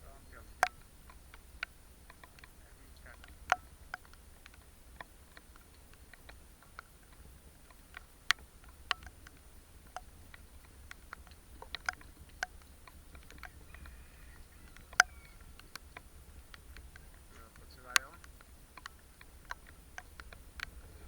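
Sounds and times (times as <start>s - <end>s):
faint low hum: 0.0s - 21.0s
sharp clicks and taps: 0.6s - 14.0s, 14.7s - 20.8s.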